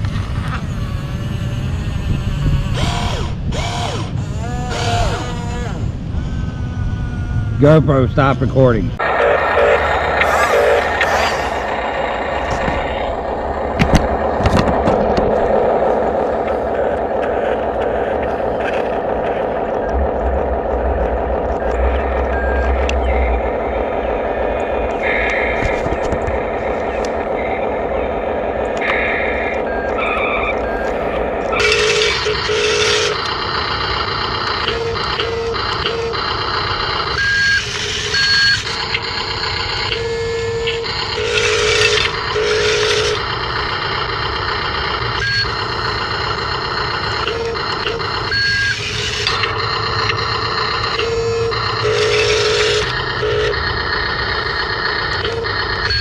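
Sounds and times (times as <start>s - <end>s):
toy engine hum: 0.0s - 7.5s, 9.6s - 20.0s, 27.0s - 56.0s
mechanical background noise: 0.0s - 56.0s
electronic reversing beeps: 9.0s - 14.4s, 15.4s - 56.0s.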